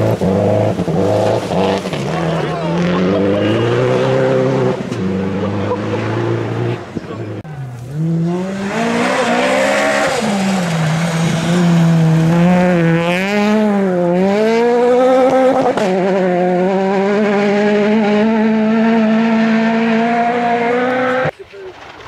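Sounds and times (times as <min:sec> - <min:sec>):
rally car engine at high revs: 0:00.0 - 0:21.3.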